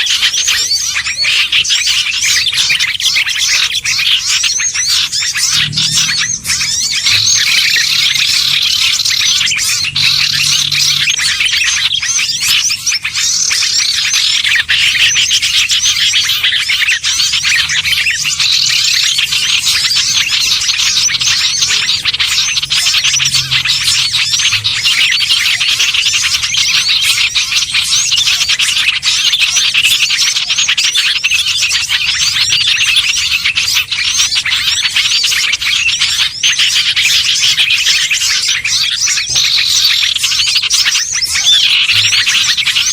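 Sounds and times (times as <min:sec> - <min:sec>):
chorus of songbirds chirping: 0:00.0 - 0:42.9.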